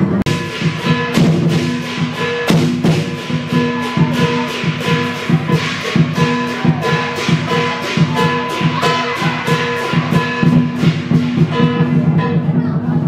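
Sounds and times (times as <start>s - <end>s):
cymbals clashing: 0.0s - 13.0s
large drum beating fast rhythm: 0.0s - 13.0s
steady ringing tone: 0.3s - 12.0s.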